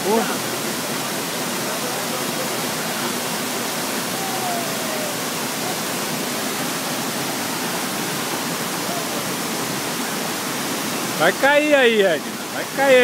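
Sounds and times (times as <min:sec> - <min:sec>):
waterfall roar: 0:00.0 - 0:13.0.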